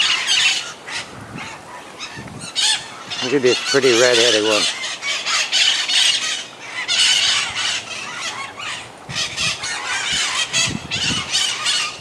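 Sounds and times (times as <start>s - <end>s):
parrots screeching: 0.0s - 12.0s.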